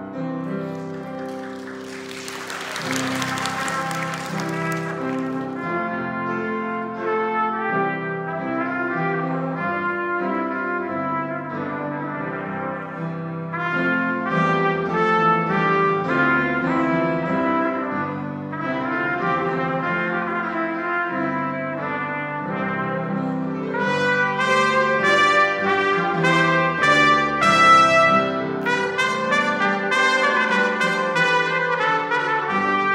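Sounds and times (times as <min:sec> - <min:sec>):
grand piano accompaniment: 0:00.0 - 0:32.9
trumpet playing a melody: 0:01.4 - 0:32.9.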